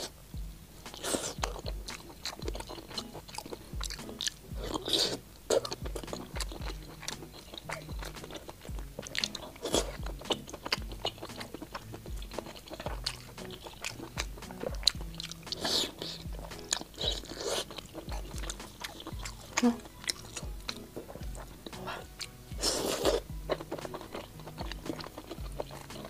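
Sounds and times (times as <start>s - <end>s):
faint background music: 0.0s - 26.0s
person chewing wetly: 0.8s - 26.0s.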